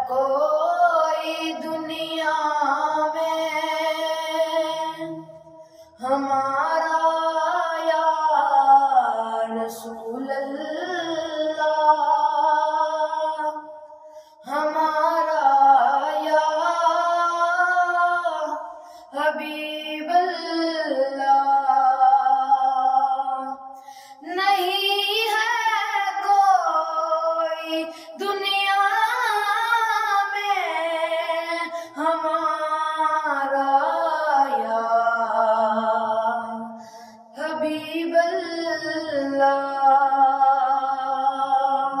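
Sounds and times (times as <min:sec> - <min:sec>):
person singing unaccompanied: 0:00.0 - 0:05.3, 0:06.0 - 0:13.7, 0:14.4 - 0:42.0.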